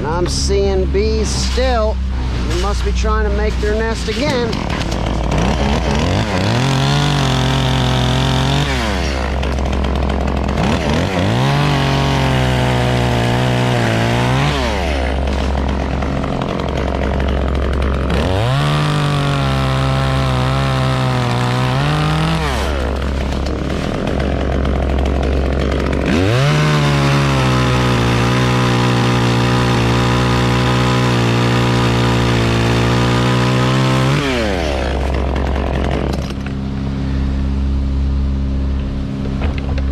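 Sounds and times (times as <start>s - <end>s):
chainsaw revving and cutting: 0.0s - 36.6s.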